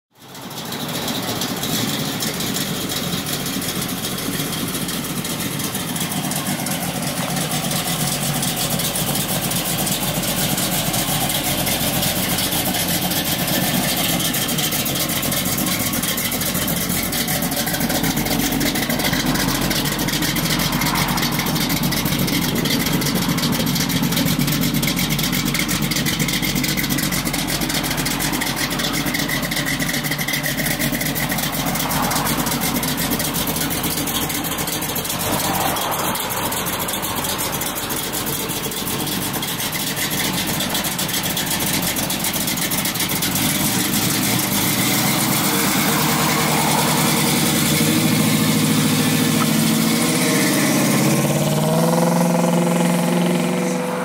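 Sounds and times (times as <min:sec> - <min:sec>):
car engine idling: 0:00.1 - 0:54.0.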